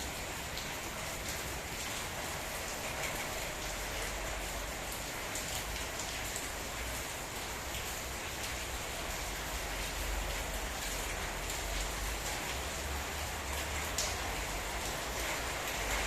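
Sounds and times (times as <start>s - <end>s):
rain downpour: 0.0s - 16.0s.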